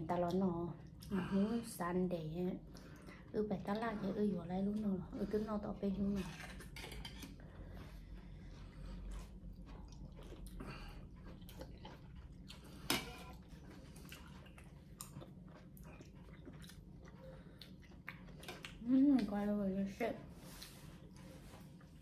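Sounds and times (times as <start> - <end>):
people chewing food: 0.0 - 22.0.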